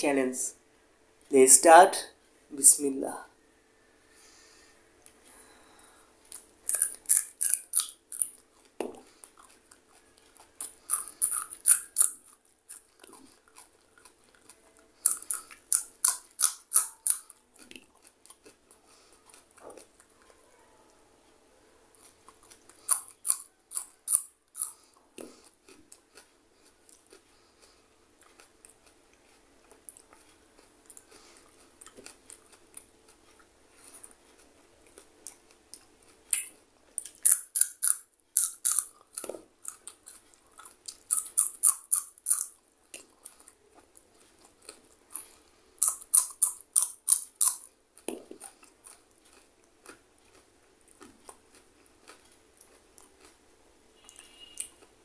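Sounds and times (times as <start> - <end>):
quiet chewing: 4.1 - 55.0
crisp crunching of chillies: 6.2 - 20.2, 21.9 - 53.4.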